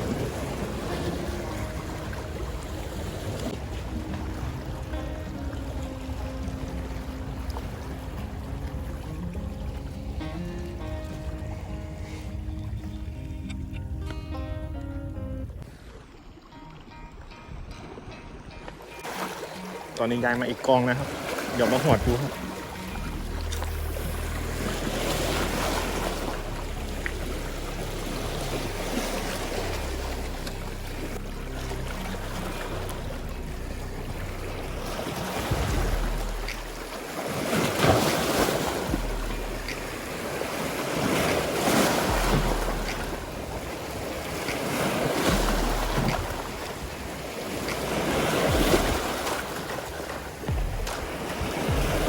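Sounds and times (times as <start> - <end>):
sea waves washing against rocks: 0.0 - 13.5, 18.8 - 52.0
wind buffeting microphone: 0.0 - 19.0, 21.0 - 52.0.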